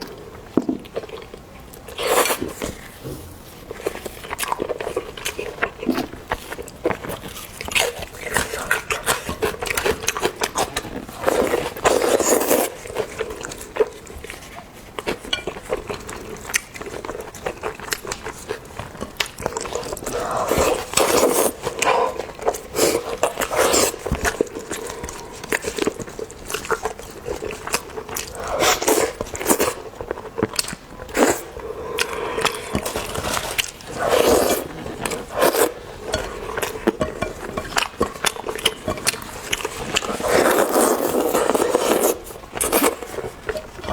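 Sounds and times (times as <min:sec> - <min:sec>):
person chewing and slurping: 0:00.7 - 0:43.9.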